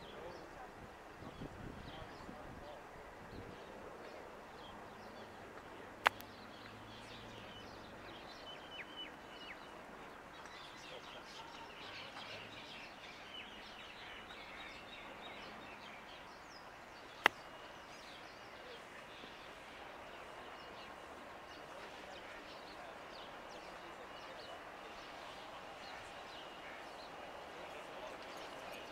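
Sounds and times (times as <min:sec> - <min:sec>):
steady background noise: 0:00.0 - 0:28.9
birds chirping: 0:01.2 - 0:28.9.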